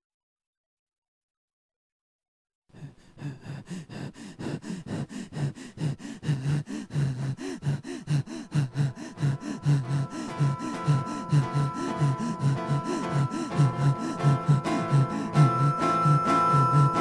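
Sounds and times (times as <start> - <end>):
rapid breathy gasps: 2.7 - 17.0.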